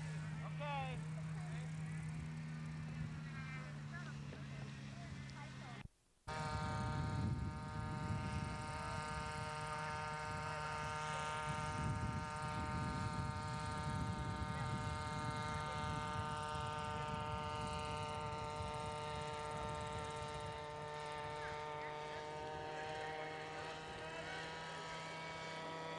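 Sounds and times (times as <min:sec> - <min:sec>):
model helicopter engine buzz: 0:00.0 - 0:25.9.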